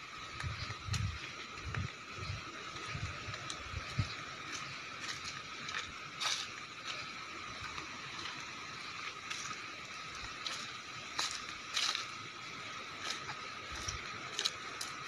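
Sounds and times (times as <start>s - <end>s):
footsteps on dirt path: 0.0s - 15.0s
steady hiss: 0.0s - 15.0s.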